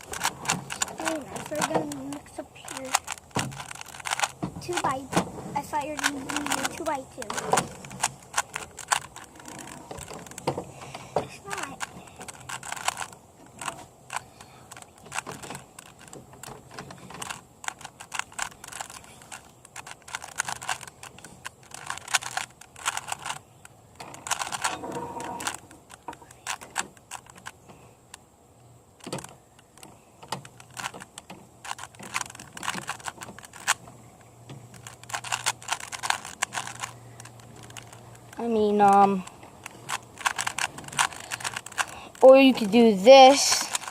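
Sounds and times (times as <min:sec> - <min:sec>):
plastic puzzle cube layers clicking: 0:00.0 - 0:28.2, 0:29.0 - 0:43.9.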